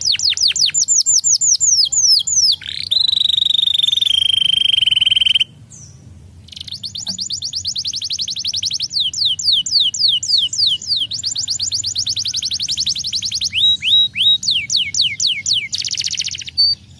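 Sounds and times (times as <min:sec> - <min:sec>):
canary singing: 0:00.0 - 0:16.9.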